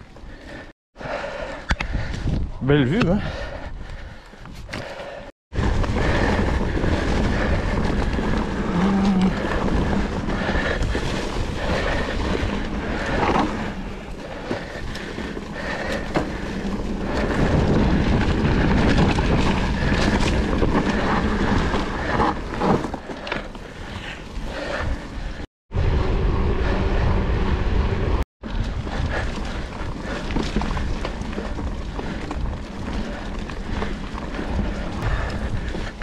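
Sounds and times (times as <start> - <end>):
bike tyres on dirt trail: 0.0 - 36.0
wind rumble on microphone: 1.7 - 4.8, 5.5 - 22.7, 23.8 - 36.0
bike rattling: 3.2 - 36.0.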